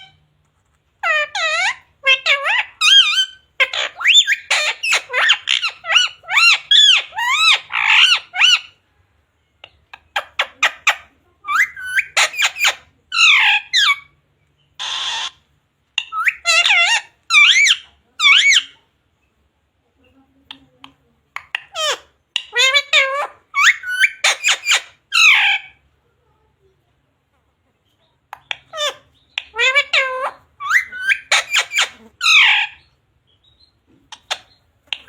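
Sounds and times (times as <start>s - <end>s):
parrot chattering and squawking: 0.0s - 8.8s, 9.6s - 19.0s, 20.4s - 25.9s, 28.0s - 35.0s.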